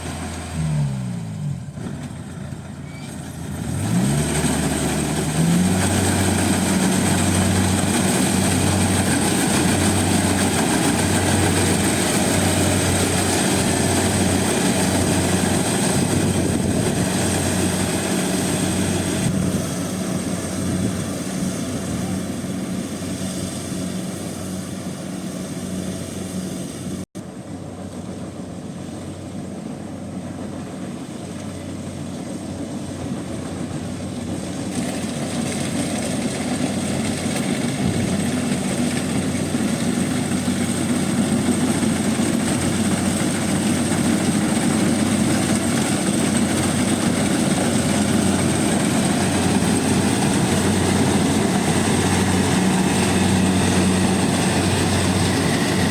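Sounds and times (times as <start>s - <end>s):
combine harvester engine hum: 0.0s - 55.9s.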